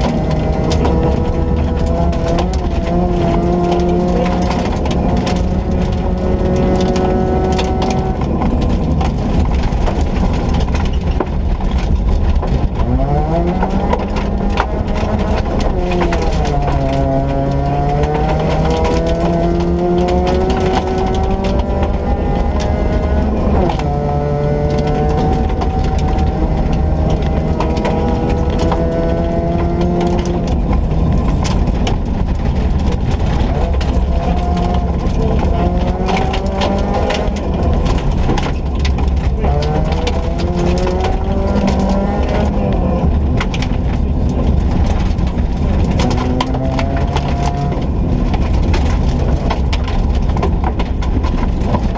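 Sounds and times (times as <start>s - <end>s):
car engine revving: 0.0s - 51.9s
sharp clicks and knocks: 0.0s - 51.9s
stones clattering against car underside: 0.0s - 51.9s.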